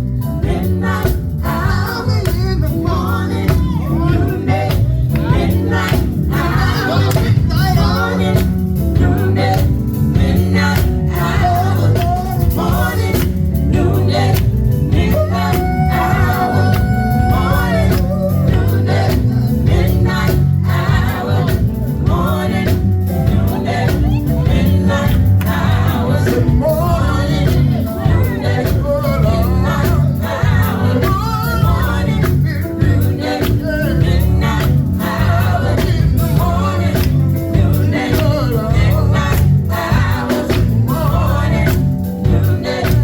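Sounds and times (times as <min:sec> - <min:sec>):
band with bass and drums: 0:00.0 - 0:43.0
gospel singers: 0:00.0 - 0:43.0.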